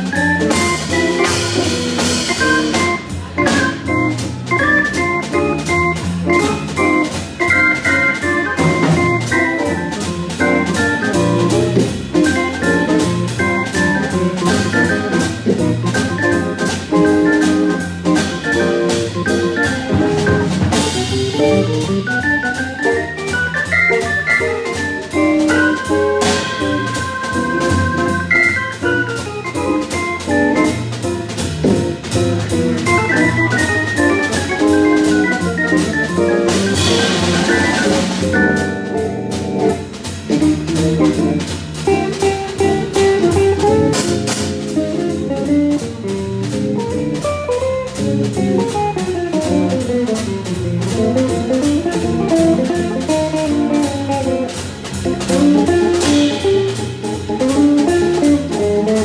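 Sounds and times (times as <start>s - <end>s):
drum kit beat: 0.0s - 59.0s
organ keyboard melody: 0.0s - 59.0s.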